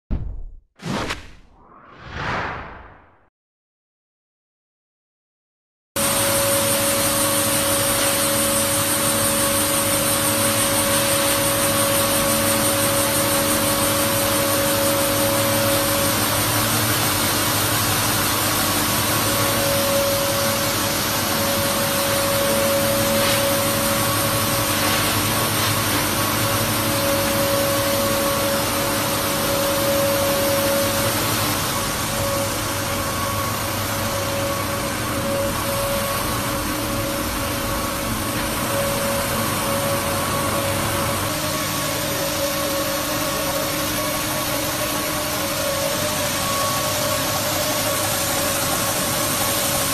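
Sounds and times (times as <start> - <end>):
machine hum with held tones: 6.0 - 49.9.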